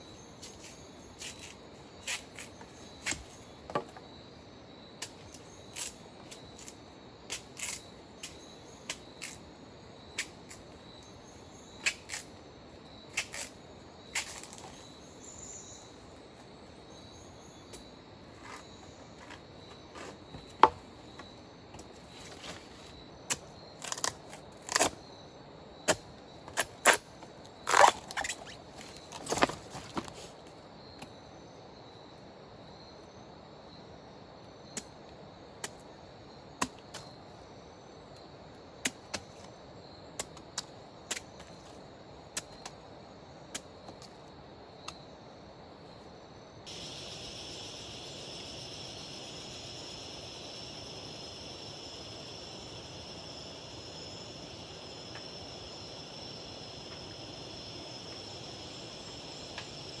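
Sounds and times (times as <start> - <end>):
insects chorusing: 0.0 - 60.0.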